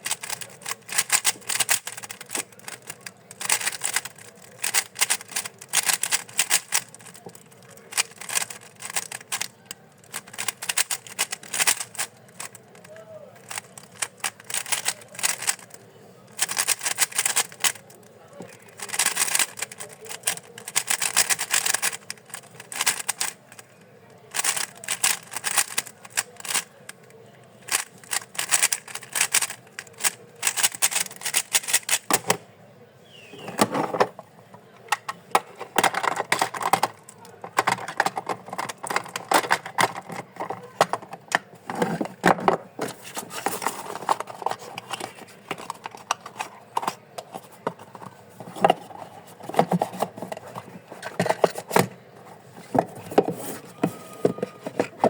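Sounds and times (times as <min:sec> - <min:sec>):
puzzle cube plastic layers clacking: 0:00.0 - 0:32.4, 0:34.8 - 0:52.0, 0:52.6 - 0:55.0.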